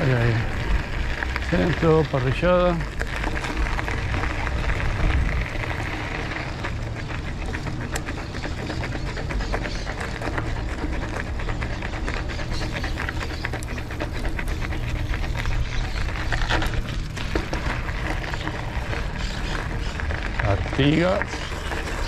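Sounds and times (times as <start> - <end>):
bicycle clicking and rattling: 0.0 - 22.0
wind rumbling on microphone: 0.0 - 22.0.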